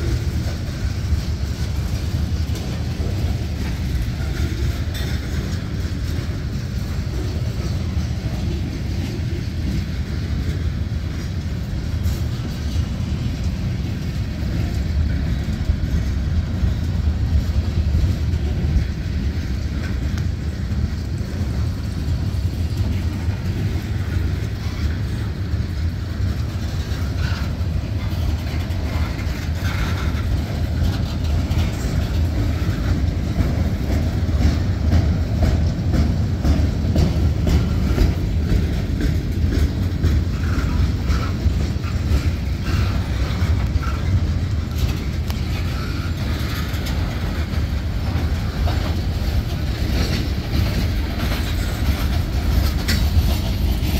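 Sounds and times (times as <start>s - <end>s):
train wheels rumbling on rail: 0.0s - 53.9s
wheels clicking on rail joints: 0.0s - 53.9s.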